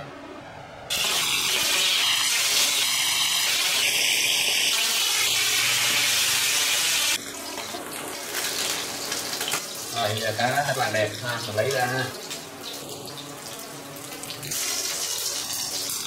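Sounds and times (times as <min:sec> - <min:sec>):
fish sizzling in a frying pan: 0:00.9 - 0:16.0.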